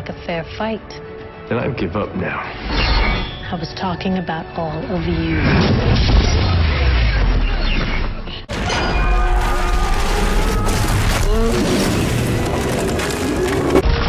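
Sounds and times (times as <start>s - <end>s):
dramatic score music: 0.0s - 7.6s, 9.8s - 14.0s.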